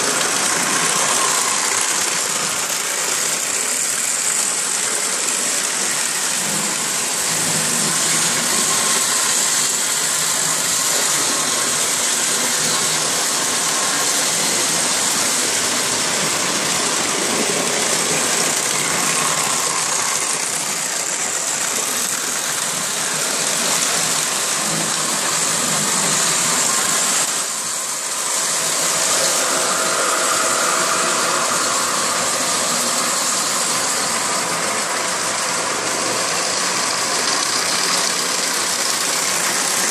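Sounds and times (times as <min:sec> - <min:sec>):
model trains rumbling on track: 0:00.0 - 0:39.9.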